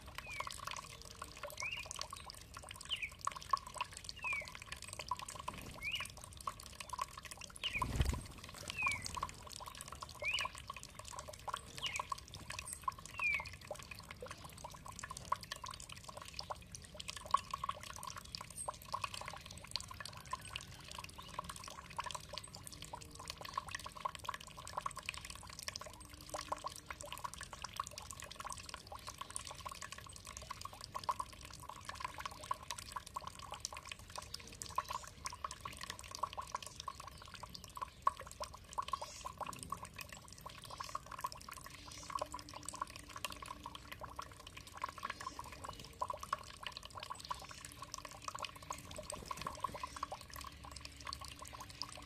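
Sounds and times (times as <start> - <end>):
water trickling and dripping: 0.0 - 52.0.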